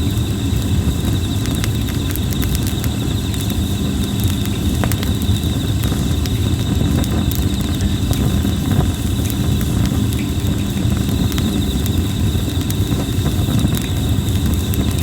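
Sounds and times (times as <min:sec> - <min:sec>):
campfire crackling and popping: 0:00.0 - 0:15.0
insects trilling: 0:00.0 - 0:15.0
low rush of flame: 0:00.0 - 0:15.0.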